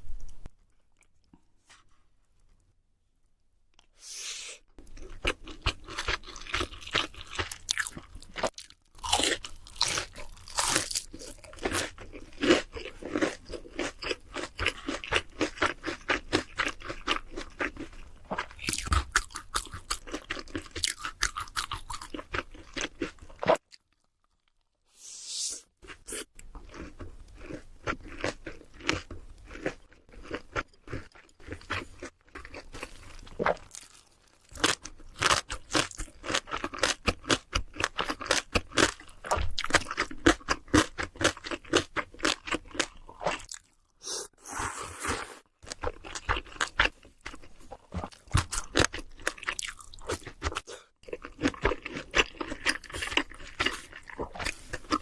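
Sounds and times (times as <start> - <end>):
crunching crispy fried food: 5.0 - 24.8, 26.2 - 43.9, 48.1 - 55.0.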